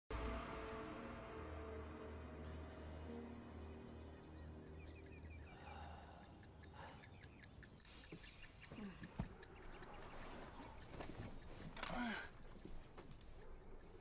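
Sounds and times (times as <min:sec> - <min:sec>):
clock ticking quickly: 0:02.5 - 0:14.0.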